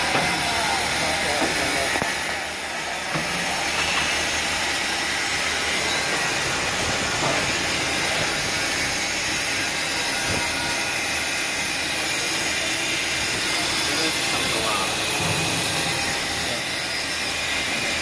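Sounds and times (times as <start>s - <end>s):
coolant spray: 0.0s - 18.0s
milling machine cutting hiss: 0.0s - 18.0s.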